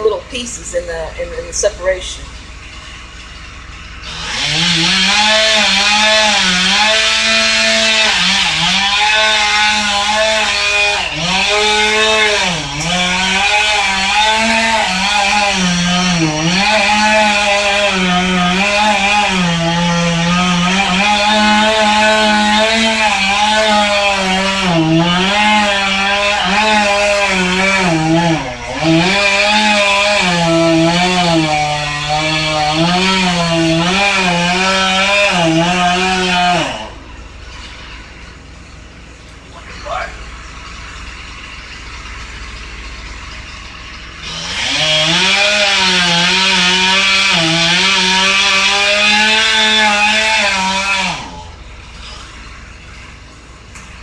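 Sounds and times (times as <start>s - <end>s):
chainsaw cutting wood: 0.0s - 38.4s, 39.9s - 53.2s.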